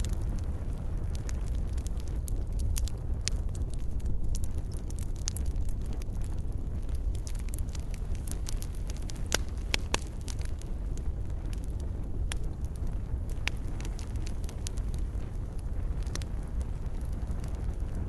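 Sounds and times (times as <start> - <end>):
fireplace fire crackling: 0.0 - 18.0
sharp fire pops and snaps: 0.0 - 18.0.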